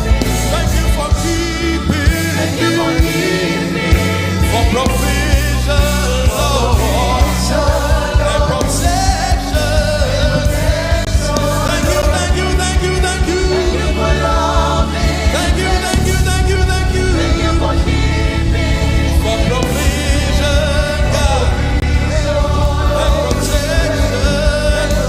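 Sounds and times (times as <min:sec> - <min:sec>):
gospel band playing: 0:00.0 - 0:25.0
voices singing: 0:00.0 - 0:25.0.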